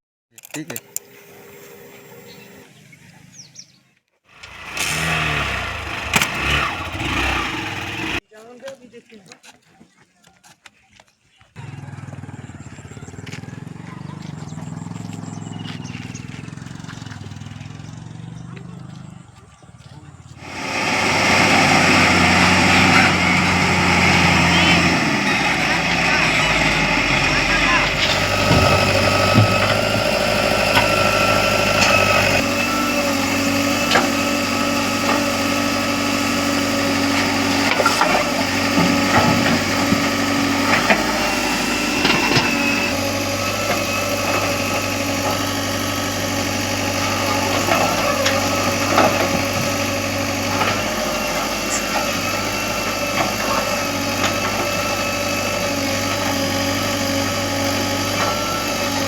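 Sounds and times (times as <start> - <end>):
diesel engine running: 1.0 - 8.2, 11.6 - 59.0.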